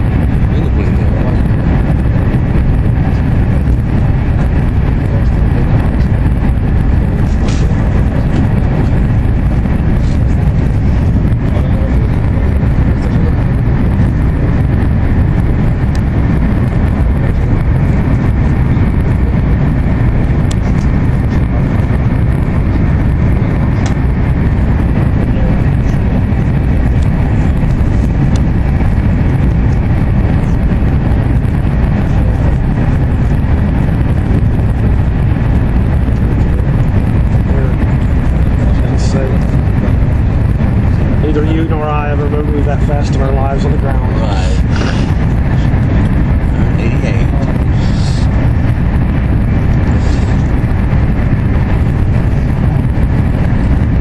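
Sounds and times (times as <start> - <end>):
train cabin rumble and rushing: 0.0 - 54.0.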